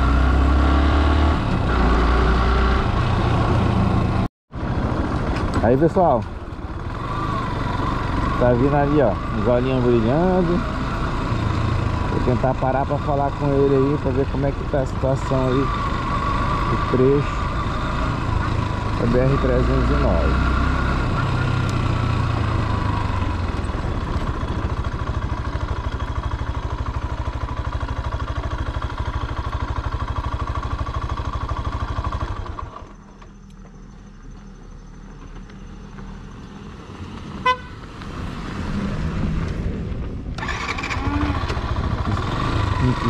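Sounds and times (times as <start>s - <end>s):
vehicle accelerating: 0.0s - 26.4s, 30.8s - 43.0s
motorcycle engine running: 0.0s - 36.3s, 39.3s - 43.0s.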